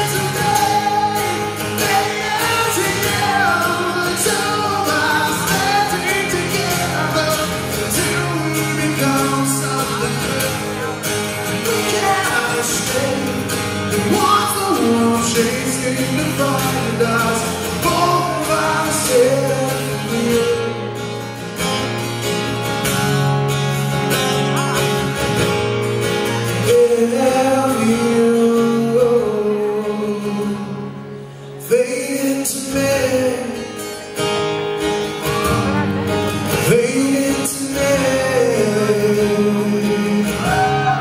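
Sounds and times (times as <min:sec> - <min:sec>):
man singing: 0:00.0 - 0:21.1, 0:26.4 - 0:34.1, 0:36.5 - 0:41.0
strummed acoustic guitar: 0:00.0 - 0:41.0.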